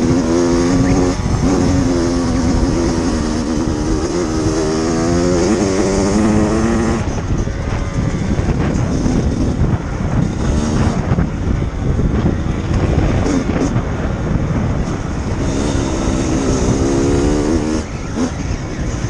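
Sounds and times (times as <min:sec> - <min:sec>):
dirt bike engine revving: 0:00.0 - 0:19.0
wind buffeting microphone: 0:00.0 - 0:19.0.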